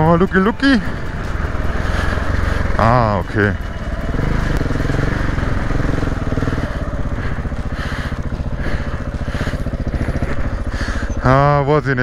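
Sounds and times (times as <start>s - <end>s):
motorcycle engine running: 0.0s - 12.0s
tyres crunching over gravel: 0.0s - 12.0s.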